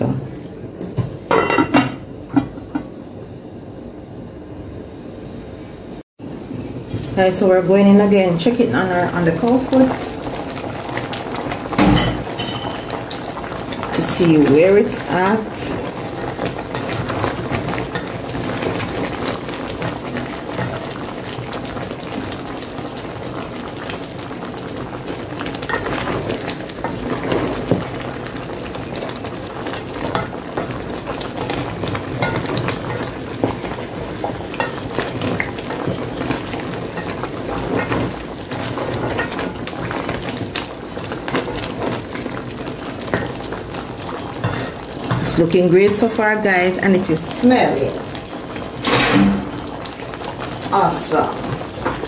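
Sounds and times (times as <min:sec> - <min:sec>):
water bubbling in a pot: 0:08.1 - 0:52.0.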